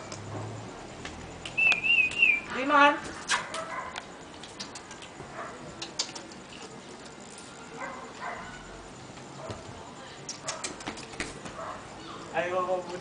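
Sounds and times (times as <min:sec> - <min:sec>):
dogs scuffling on concrete: 0:00.9 - 0:13.0.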